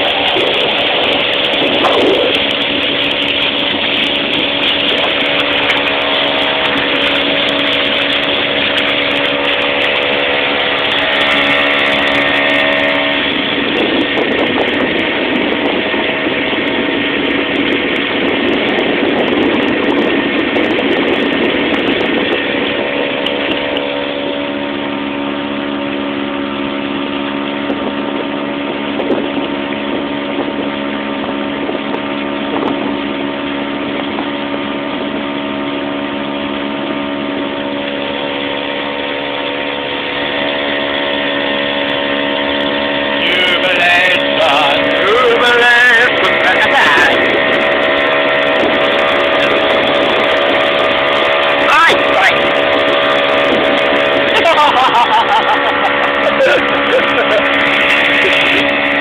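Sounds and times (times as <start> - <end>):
motorboat engine running: 0.0 - 59.0
rushing water: 0.0 - 59.0
wind noise: 0.0 - 59.0.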